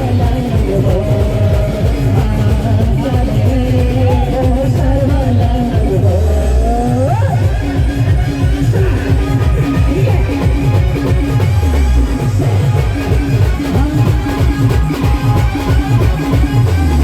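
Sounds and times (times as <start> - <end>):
fast heavy drum beat: 0.0 - 17.0
sliding lead melody: 0.0 - 17.0.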